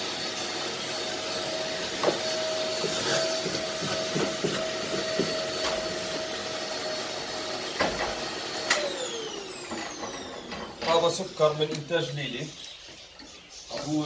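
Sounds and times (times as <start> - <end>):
vacuum cleaner running: 0.0 - 12.4.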